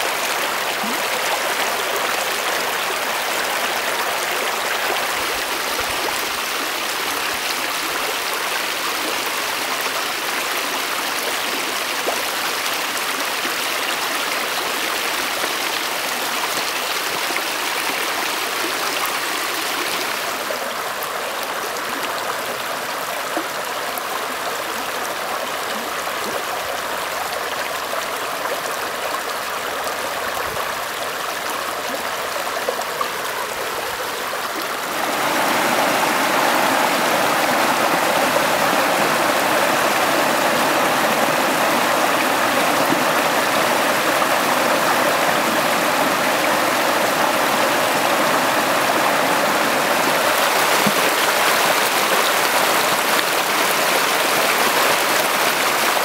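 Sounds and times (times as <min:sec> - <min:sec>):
creek water splashing over rocks: 0:00.0 - 0:56.0.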